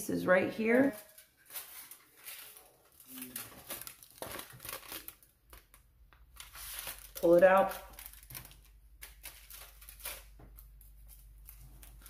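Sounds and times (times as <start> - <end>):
aluminium foil crinkling: 0.6 - 12.0.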